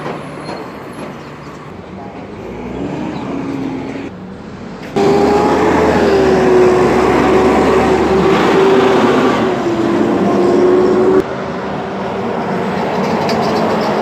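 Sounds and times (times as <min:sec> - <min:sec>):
garbage truck engine whine: 0:01.7 - 0:13.2.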